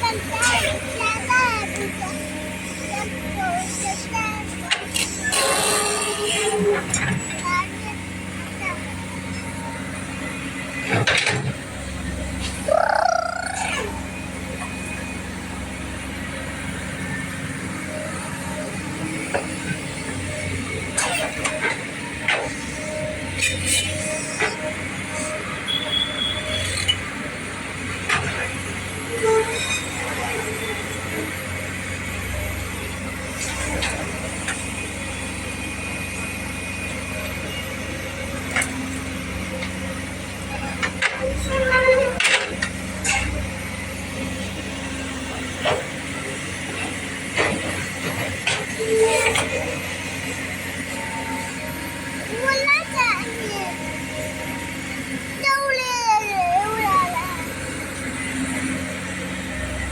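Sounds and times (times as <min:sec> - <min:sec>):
heavy engine low drone: 0:00.0 - 0:59.9.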